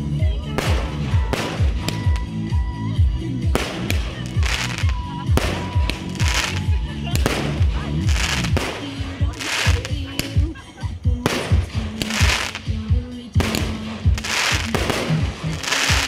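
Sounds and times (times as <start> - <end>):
fireworks bursting and crackling: 0.0 - 16.0
music with bass and beat: 0.0 - 16.0.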